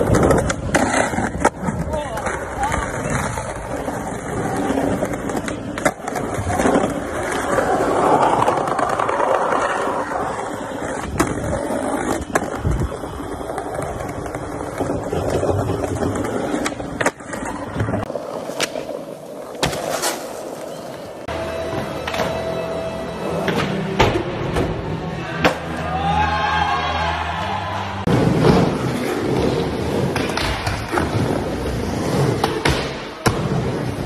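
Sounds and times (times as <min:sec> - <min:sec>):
skateboard wheels rolling on stone: 0:00.0 - 0:22.6, 0:28.0 - 0:34.0.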